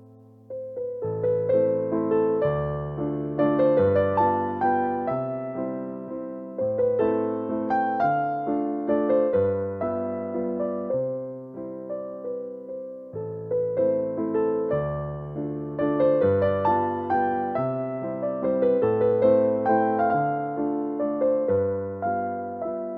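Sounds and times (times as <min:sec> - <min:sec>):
slow piano music: 0:00.0 - 0:22.9.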